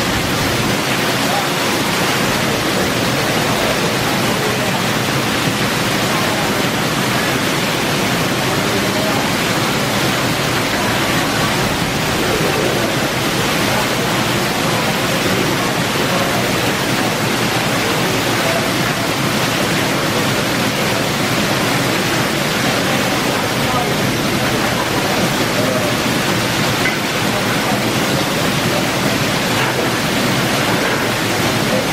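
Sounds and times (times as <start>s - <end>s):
heavy rain: 0.0s - 31.9s
water splashing onto tiles: 0.0s - 31.9s.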